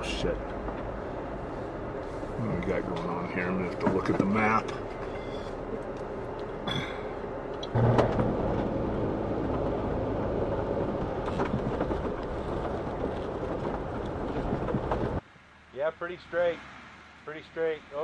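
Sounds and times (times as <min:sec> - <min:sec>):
engine and tyre rumble: 0:00.0 - 0:15.3.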